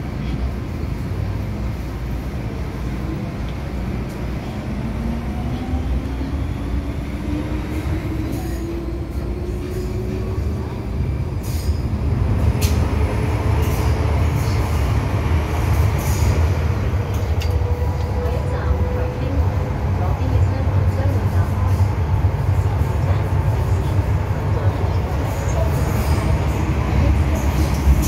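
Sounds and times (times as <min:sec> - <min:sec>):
heavy train running rumble: 0:00.0 - 0:28.0.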